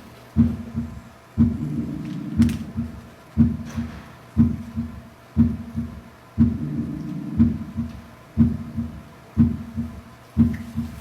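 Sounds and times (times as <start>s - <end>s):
heartbeat gallop rhythm: 0.4s - 11.0s.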